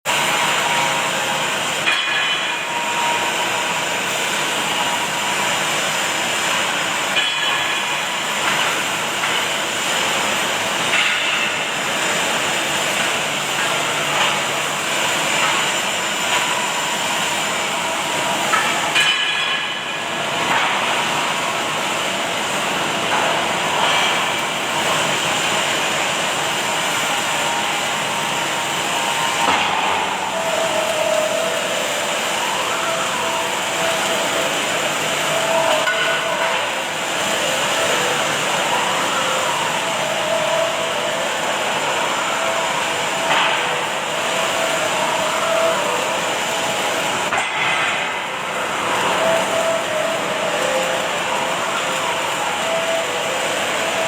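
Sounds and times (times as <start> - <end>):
factory noise: 0.0 - 54.0
welding arc hiss and crackle: 0.1 - 54.0.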